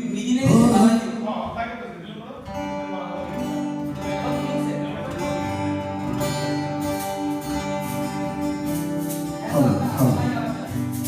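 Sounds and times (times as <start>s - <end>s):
instrumental music with guitar: 0.0s - 1.8s, 2.4s - 11.0s.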